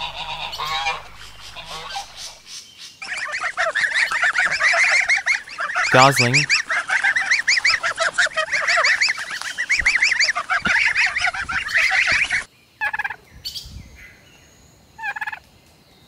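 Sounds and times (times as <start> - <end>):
goslings peeping: 0.0 - 13.2.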